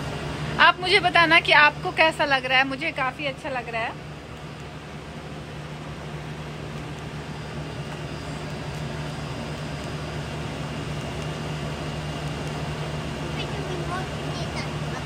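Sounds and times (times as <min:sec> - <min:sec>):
faint high whine: 0:00.0 - 0:15.0
low machine hum: 0:00.0 - 0:15.0.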